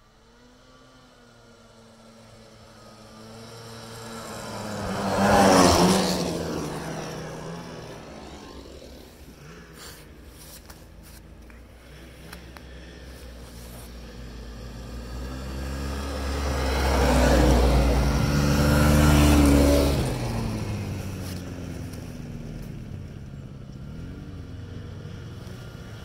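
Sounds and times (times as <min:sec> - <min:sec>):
snowmobile engine passing by: 0:00.0 - 0:26.0.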